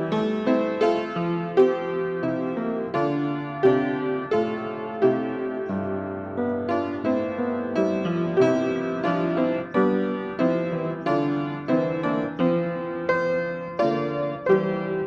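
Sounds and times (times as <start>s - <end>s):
piano chords ringing: 0.0s - 15.0s.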